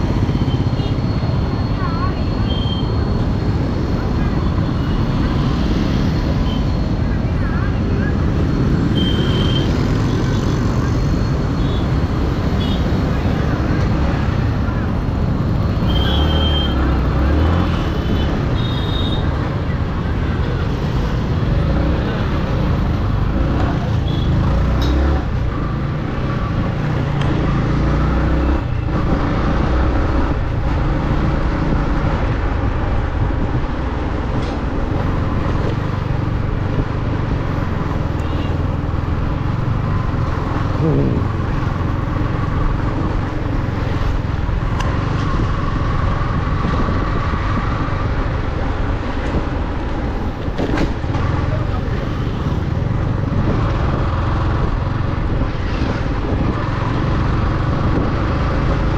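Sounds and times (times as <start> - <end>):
surrounding traffic noise: 0.0 - 58.9.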